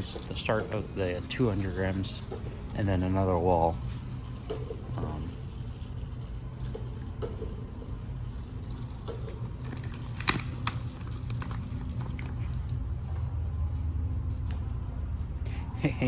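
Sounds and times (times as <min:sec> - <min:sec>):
indoor store hum: 0:00.0 - 0:16.0.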